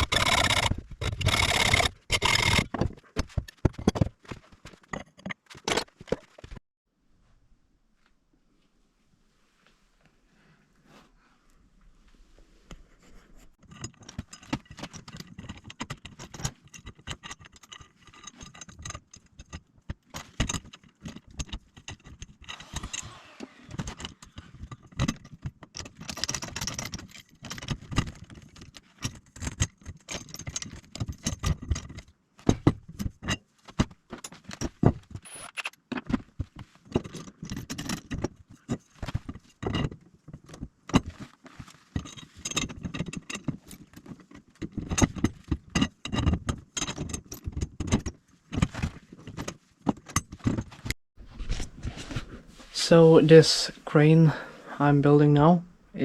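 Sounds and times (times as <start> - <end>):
metal parts and tools clanking: 0.0 - 6.6, 13.6 - 54.4.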